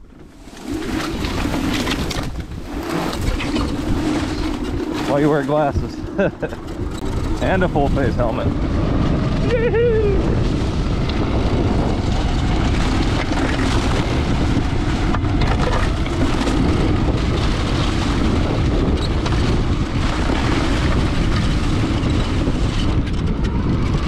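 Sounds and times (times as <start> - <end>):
tyres rumbling over rough ground: 0.0 - 24.0
wind noise on microphone: 0.0 - 24.0.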